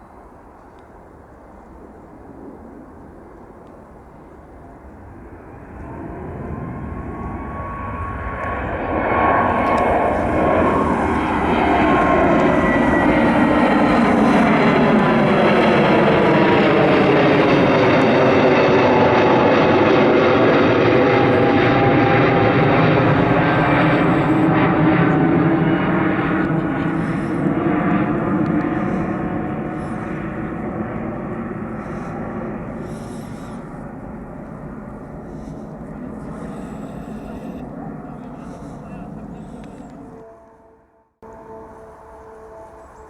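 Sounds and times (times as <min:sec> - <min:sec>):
jet engines roaring: 0:00.2 - 0:40.6, 0:41.2 - 0:43.0.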